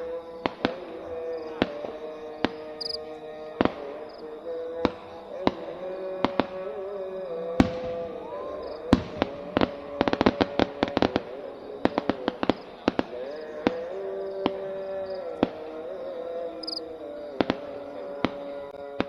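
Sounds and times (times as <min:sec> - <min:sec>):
firecrackers banging: 0:00.0 - 0:16.0, 0:16.6 - 0:19.0.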